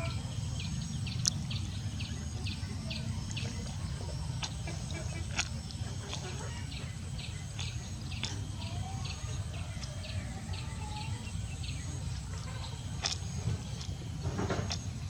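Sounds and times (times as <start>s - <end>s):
low background rumble: 0.0s - 15.0s
small bird chirping: 0.0s - 15.0s.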